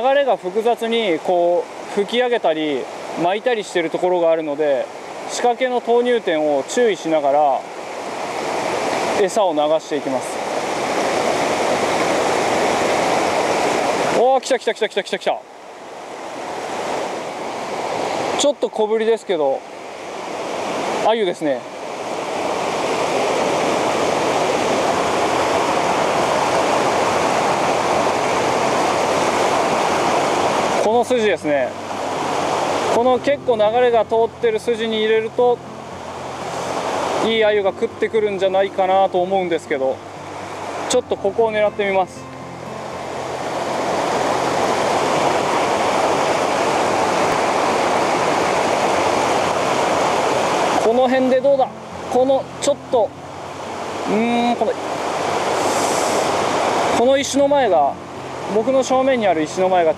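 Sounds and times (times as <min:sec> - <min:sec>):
river water rushing over stones: 0:00.0 - 0:59.9.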